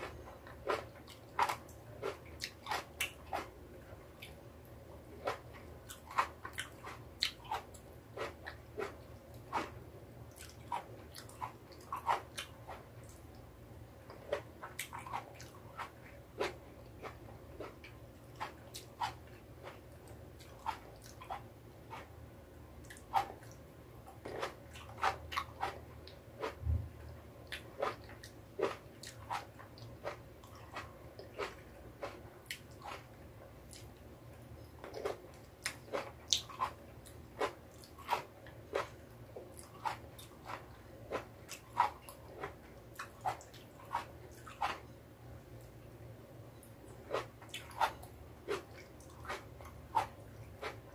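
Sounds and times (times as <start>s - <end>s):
chewing tomatoes: 0.0s - 45.9s, 46.5s - 50.9s.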